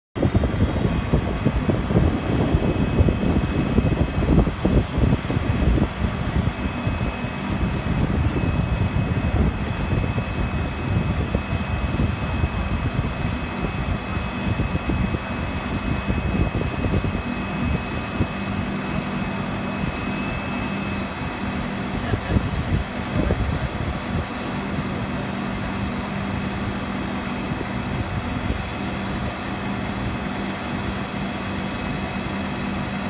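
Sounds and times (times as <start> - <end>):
thin high hydraulic whine: 0.2 - 33.0
truck engine rumble: 0.2 - 33.0.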